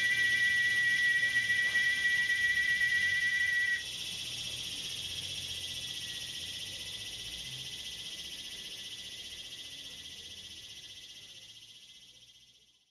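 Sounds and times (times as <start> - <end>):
insect chorus trilling: 0.0 - 12.9.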